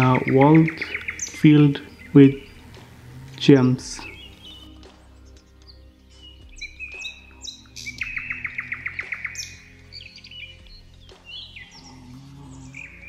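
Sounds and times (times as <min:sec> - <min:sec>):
birds chirping: 0:00.0 - 0:13.0
soft background music: 0:00.0 - 0:13.0.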